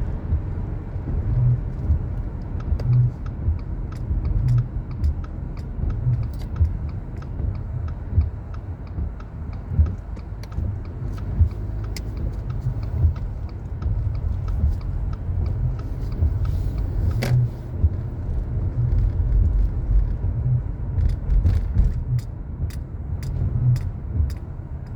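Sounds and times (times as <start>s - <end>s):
engine and road noise: 0.0s - 24.9s
light ticks: 0.0s - 24.9s.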